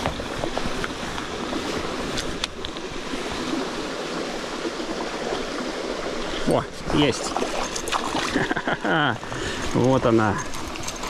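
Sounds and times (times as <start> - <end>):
stream running over shallows: 0.0 - 11.0.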